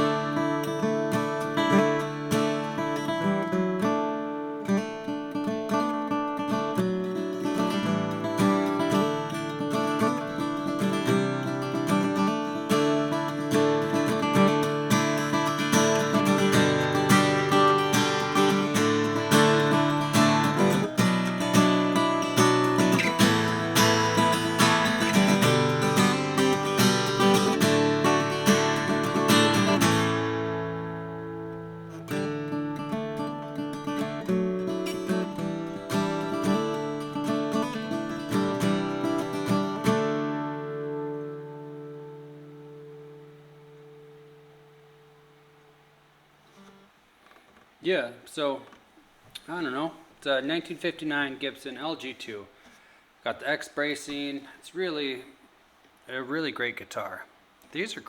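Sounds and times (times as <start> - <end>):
acoustic guitar strumming: 0.0 - 47.8.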